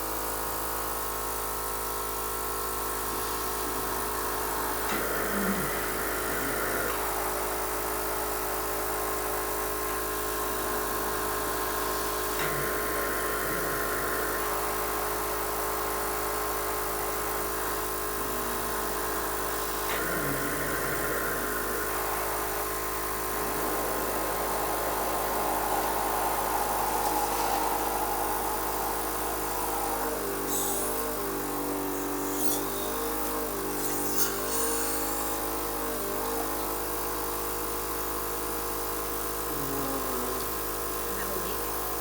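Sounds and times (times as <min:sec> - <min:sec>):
machine blower humming: 0:00.7 - 0:42.0.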